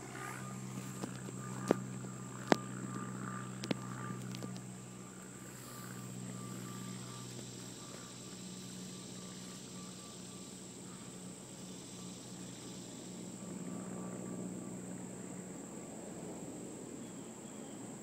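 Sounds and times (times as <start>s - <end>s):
crickets droning: 0.0s - 18.0s
low steady hum: 0.0s - 18.0s.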